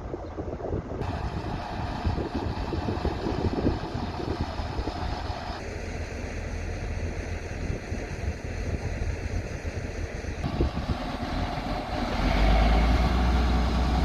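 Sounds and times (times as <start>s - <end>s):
wind buffeting microphone: 0.0s - 14.0s
diesel engine running: 0.9s - 14.0s.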